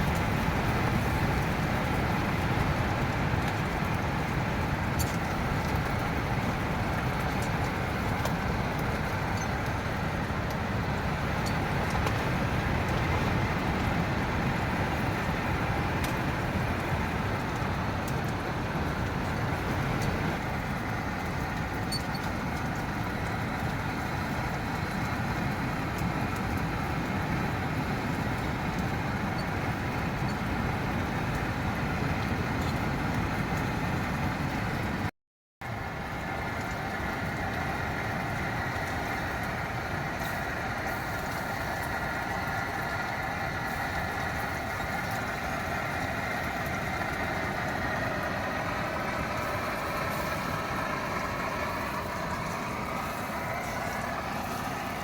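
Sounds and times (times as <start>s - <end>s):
rain: 0.0s - 55.0s.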